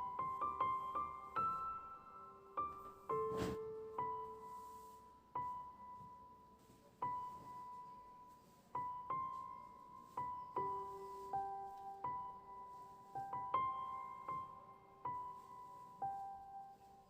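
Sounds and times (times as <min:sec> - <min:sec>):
slow solo piano: 0:00.0 - 0:17.0.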